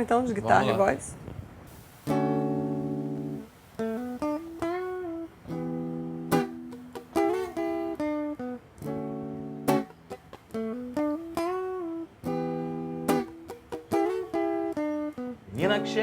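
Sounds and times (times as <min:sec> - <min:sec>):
clean electric guitar playing: 0:02.0 - 0:16.0.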